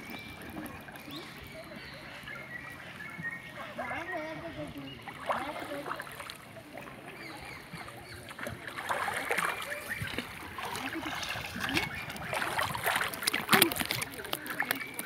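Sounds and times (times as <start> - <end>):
paddle splashing in water: 0.0 - 15.0
water sloshing along hull: 0.0 - 15.0.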